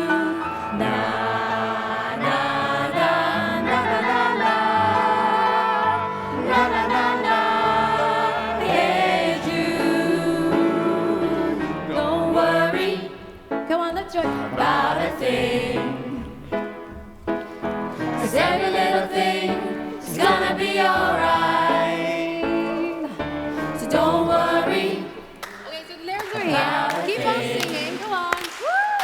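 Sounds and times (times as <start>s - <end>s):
group of singers: 0.0s - 25.6s, 26.2s - 28.3s
piano accompaniment: 0.0s - 25.6s.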